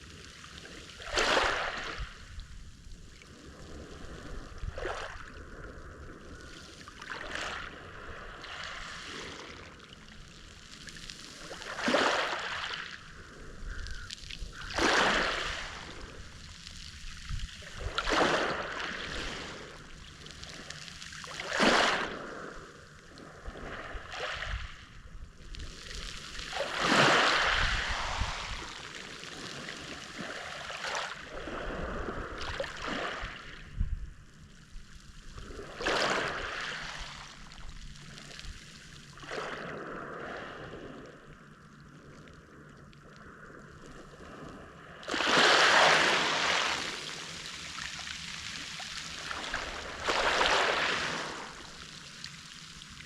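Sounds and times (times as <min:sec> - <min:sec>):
small waves breaking on shore: 0:00.0 - 0:53.0.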